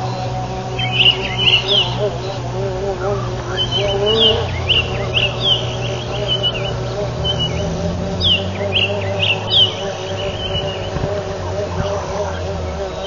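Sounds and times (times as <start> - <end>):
birds chirping sharply: 0.0 - 13.0
insect-like drone: 0.0 - 13.0
steady low hum: 0.0 - 13.0.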